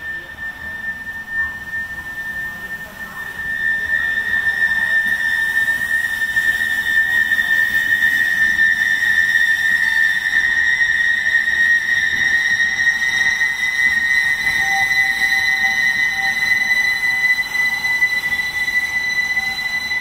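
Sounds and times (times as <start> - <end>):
tram wheels squealing on track: 0.0 - 20.0.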